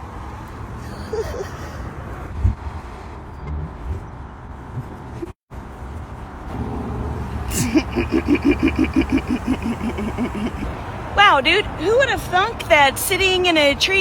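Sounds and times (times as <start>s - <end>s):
cars rumbling in parking lot: 0.0s - 14.0s.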